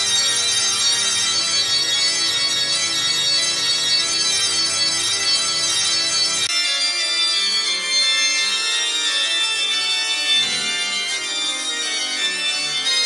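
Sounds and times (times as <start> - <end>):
organ chords: 0.0 - 13.0.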